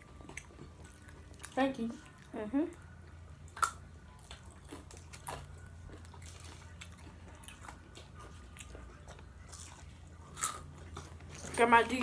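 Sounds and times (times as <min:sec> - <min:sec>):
chewing with soft crunches: 0:00.0 - 0:11.6
low steady hum: 0:00.0 - 0:12.0.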